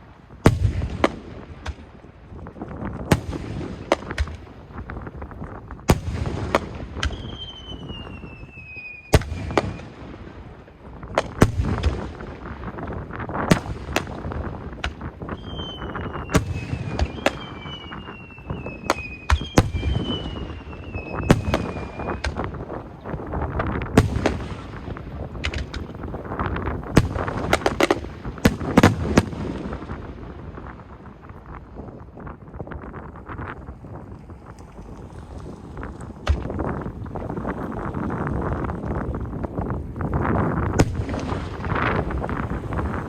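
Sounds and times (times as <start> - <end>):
whistling fireworks falling in pitch: 0.0 - 32.1, 40.4 - 43.0
fireworks bursting with bangs: 0.0 - 33.4, 35.7 - 43.0.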